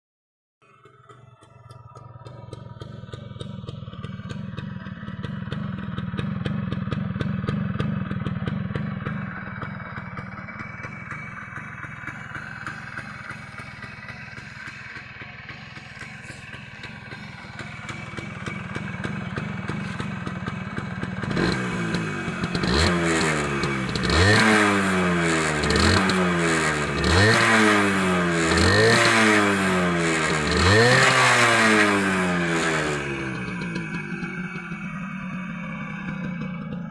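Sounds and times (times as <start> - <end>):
two-stroke engine idling: 0.6 - 36.9
engine revving: 5.5 - 36.9.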